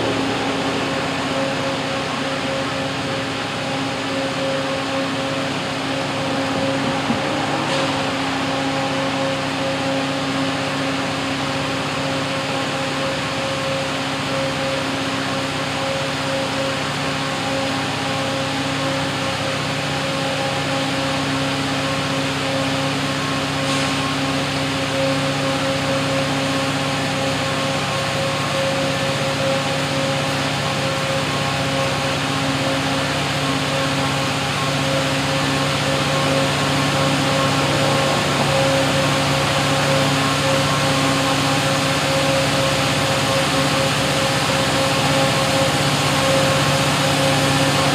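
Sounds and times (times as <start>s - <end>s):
diesel locomotive engine drone: 0.0s - 47.9s.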